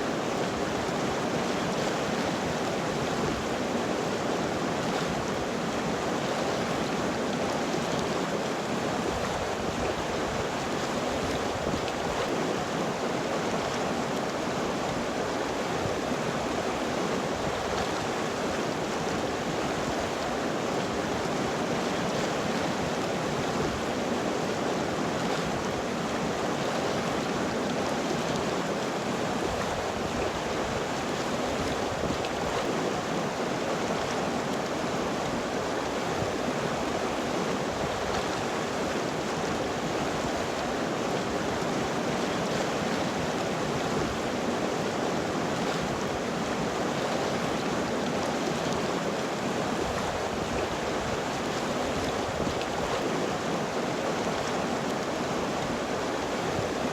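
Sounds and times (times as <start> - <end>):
river water flowing over rocks: 0.0 - 56.9.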